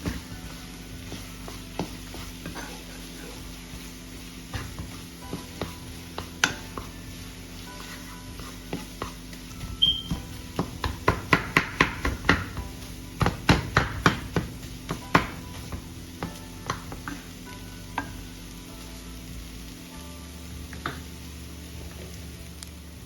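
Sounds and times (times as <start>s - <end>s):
faint background music: 0.0s - 23.0s.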